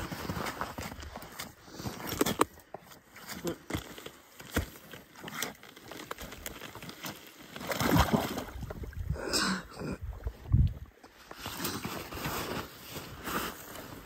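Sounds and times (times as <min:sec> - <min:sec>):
crunching on snow and ice: 0:00.0 - 0:09.0, 0:11.0 - 0:14.0.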